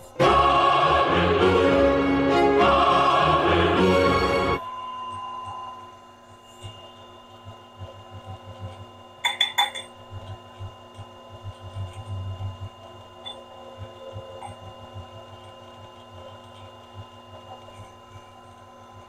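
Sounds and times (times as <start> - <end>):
faint machine hum: 0.0 - 19.0.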